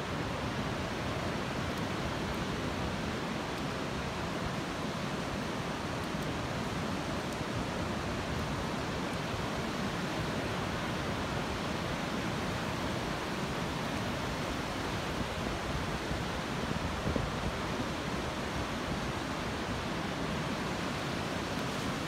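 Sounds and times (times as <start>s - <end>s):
ocean surf washing up a beach: 0.0s - 22.0s.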